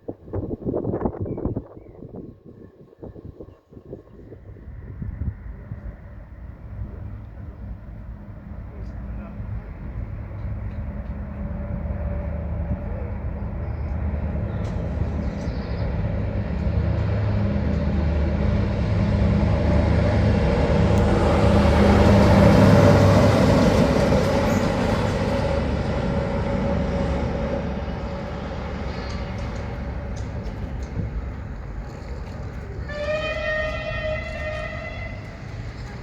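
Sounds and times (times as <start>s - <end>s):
wheels rumbling on rails: 3.1s - 36.0s
train passing: 4.6s - 36.0s.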